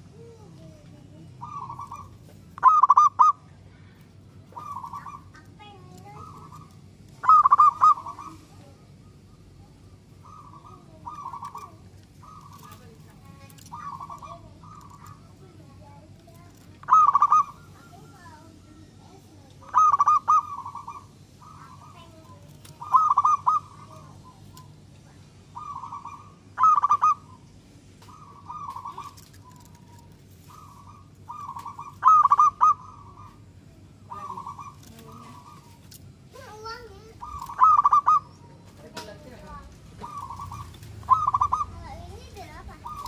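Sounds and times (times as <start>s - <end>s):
dove cooing: 0.0s - 43.0s.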